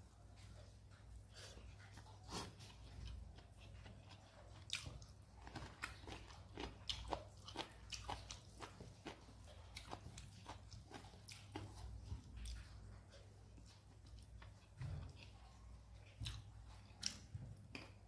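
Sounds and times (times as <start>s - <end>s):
chewing and crunching: 0.1s - 18.0s.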